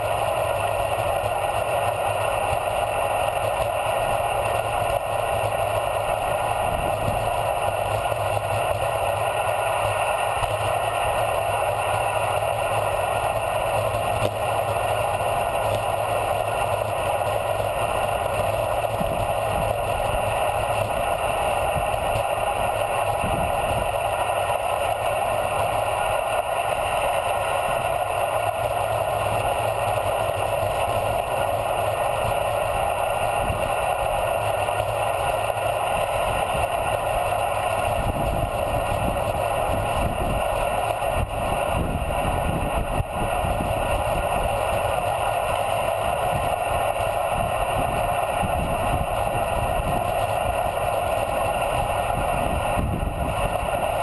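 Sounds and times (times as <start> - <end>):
wind rushing over camera: 0.0 - 54.0.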